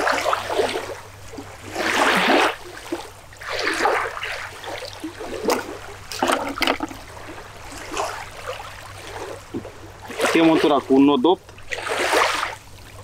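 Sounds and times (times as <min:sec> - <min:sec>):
waves lapping on sandy shore: 0:00.0 - 0:13.0.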